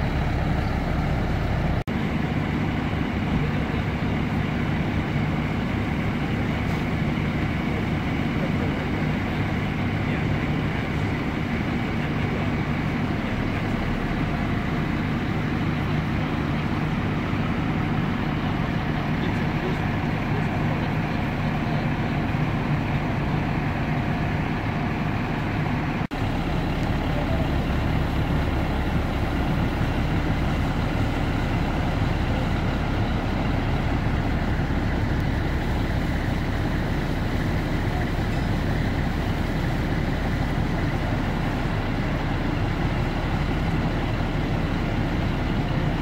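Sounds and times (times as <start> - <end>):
diesel engines idling: 0.0 - 46.0.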